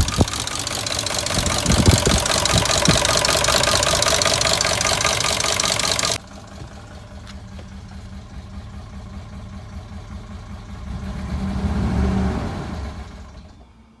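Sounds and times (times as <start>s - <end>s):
car engine running with rattle: 0.0s - 14.0s.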